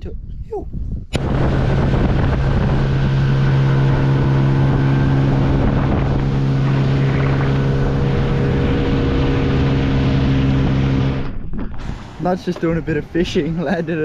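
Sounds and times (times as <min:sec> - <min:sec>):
wind buffeting microphone: 0:00.0 - 0:14.0
outboard motor running: 0:01.1 - 0:14.0.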